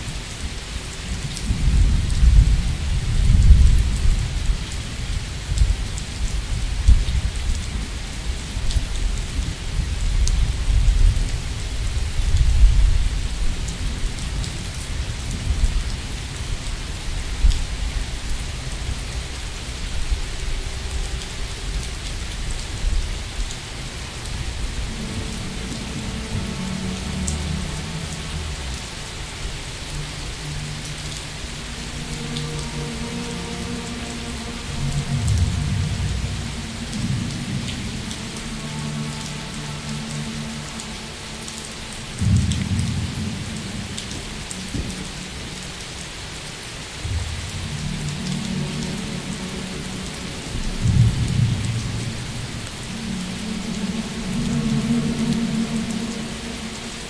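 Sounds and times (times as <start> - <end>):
steady rain falling: 0.0 - 57.0
low steady tones: 9.7 - 57.0.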